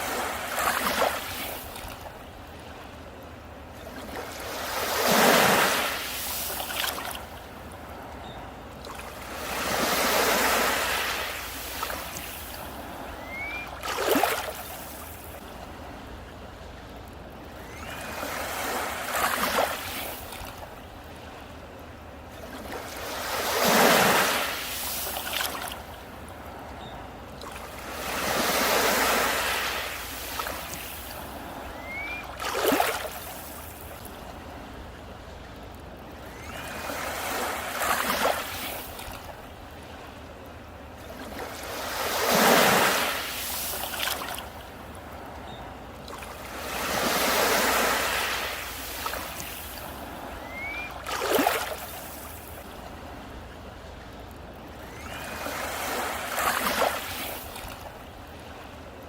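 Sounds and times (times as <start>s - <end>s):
sea waves breaking on beach: 0.0s - 16.7s, 17.4s - 59.0s.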